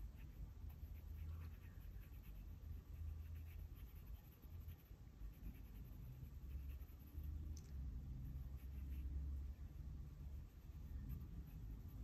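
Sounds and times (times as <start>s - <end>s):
pencil scratching on paper: 0.0s - 7.5s, 8.2s - 9.4s, 10.2s - 12.0s
low background rumble: 0.0s - 12.0s.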